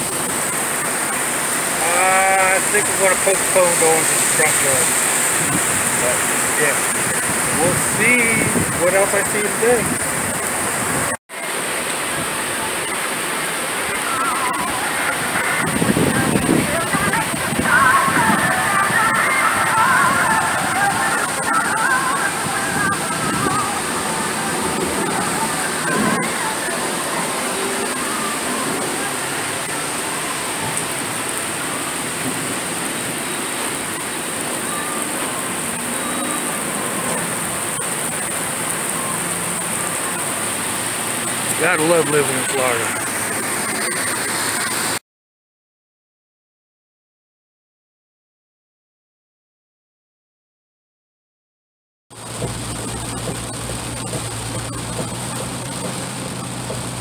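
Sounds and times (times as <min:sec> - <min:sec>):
heavy rain pouring: 0:00.0 - 0:45.0, 0:52.1 - 0:57.0.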